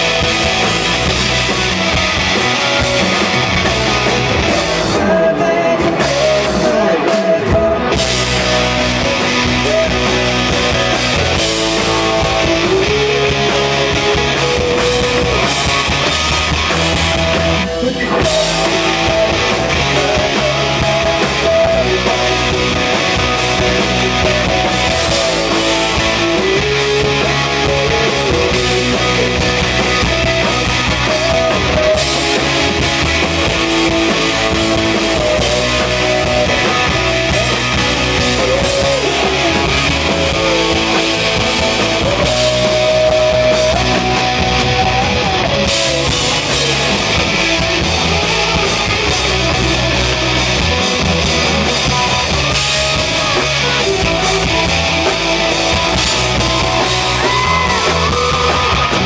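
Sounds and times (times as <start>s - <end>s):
country rock band playing: 0.0s - 59.0s
sliding lead guitar line: 0.0s - 59.0s.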